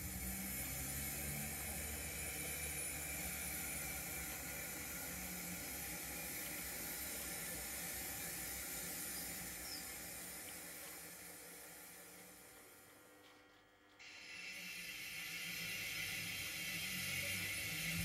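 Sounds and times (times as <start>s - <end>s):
model steam locomotive hiss: 0.0s - 12.8s, 14.0s - 18.0s
model train low rumble: 0.0s - 18.0s.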